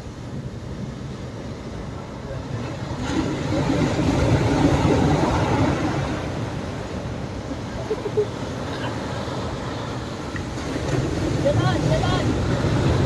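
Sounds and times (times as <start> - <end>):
sea waves breaking: 0.0 - 13.0.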